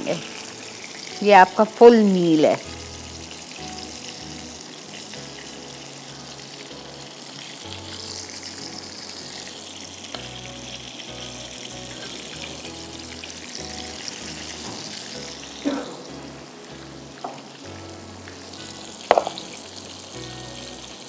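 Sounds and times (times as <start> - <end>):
hot oil sizzling in a frying pan: 0.0 - 21.0
soft background music: 0.0 - 21.0.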